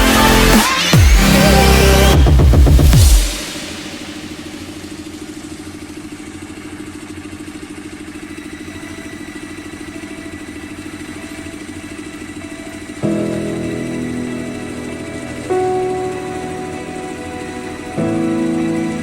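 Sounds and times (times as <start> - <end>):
engine running with fast pulse: 0.0 - 19.0.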